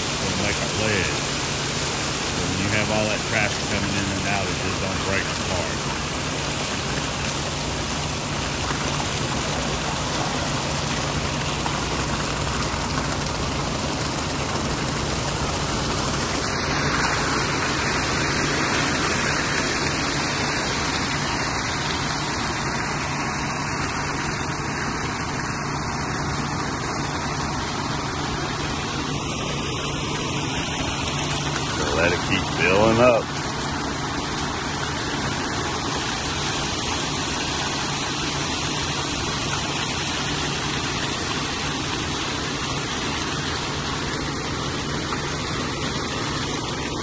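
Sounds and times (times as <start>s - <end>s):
diesel engine running: 0.0s - 47.0s
wet concrete sliding down chute: 0.0s - 47.0s.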